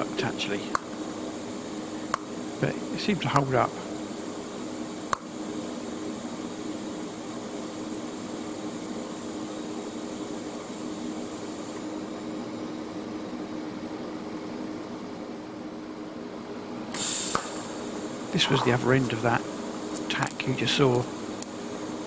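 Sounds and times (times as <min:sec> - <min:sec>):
welder fan hum and hiss: 0:00.0 - 0:22.0.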